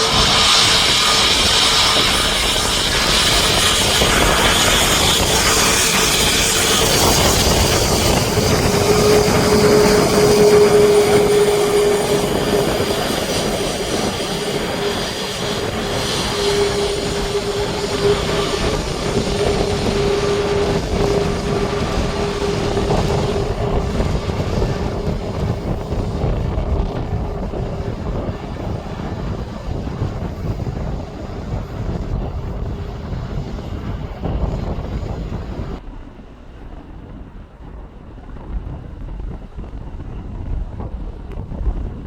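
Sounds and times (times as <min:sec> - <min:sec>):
jet engines hissing: 0:00.0 - 0:38.4
wind rumbling on microphone: 0:00.0 - 0:42.0.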